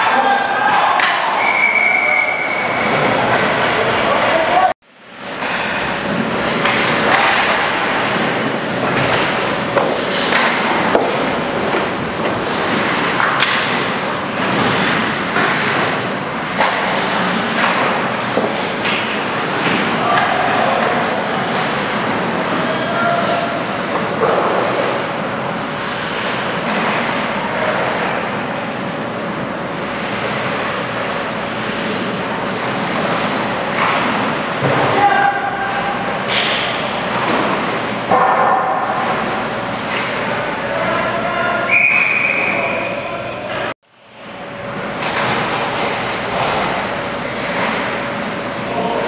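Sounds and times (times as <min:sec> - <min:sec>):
ice rink crowd din: 0:00.0 - 0:49.0.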